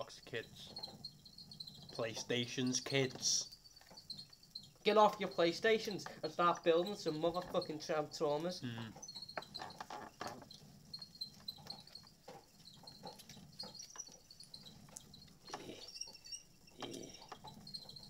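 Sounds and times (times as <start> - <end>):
high squeaks: 0.0 - 18.0.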